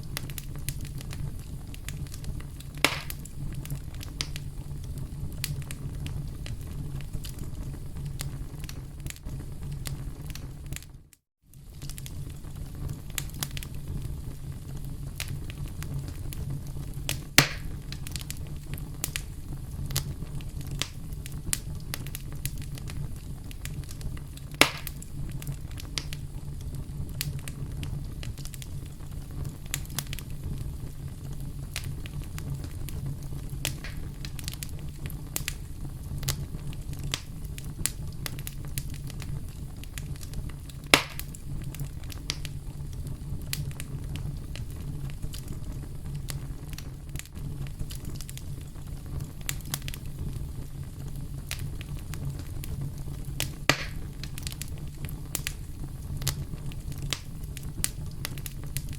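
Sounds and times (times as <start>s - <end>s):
campfire crackling and popping: 0.0s - 58.9s
fire rumbling: 0.0s - 58.9s.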